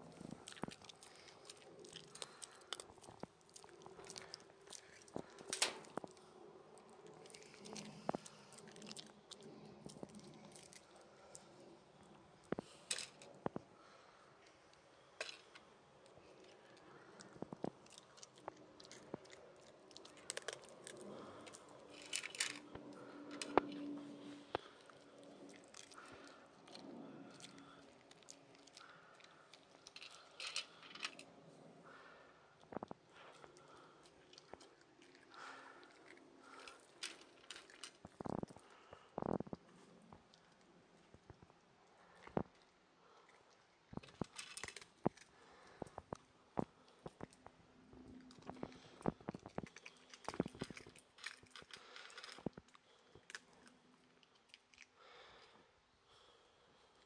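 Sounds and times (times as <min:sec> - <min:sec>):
dog crunching dry kibble: 0:00.0 - 0:11.5, 0:15.2 - 0:31.3, 0:32.7 - 0:42.6, 0:43.3 - 0:55.5.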